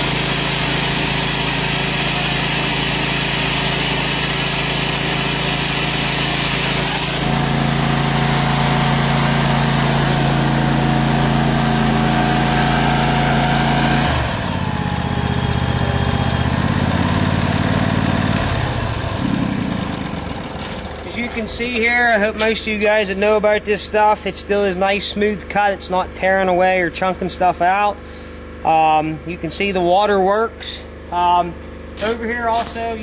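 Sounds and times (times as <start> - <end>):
chainsaw grinding concrete: 0.0 - 26.6, 29.8 - 33.0
gas engine and hydraulic pump running: 0.0 - 33.0.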